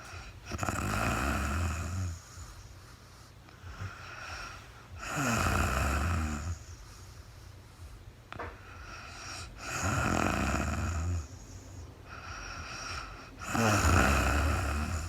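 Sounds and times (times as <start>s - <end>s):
woman snoring: 0.0s - 2.8s, 3.7s - 6.9s, 8.7s - 15.0s
quiet breathing: 0.0s - 15.0s.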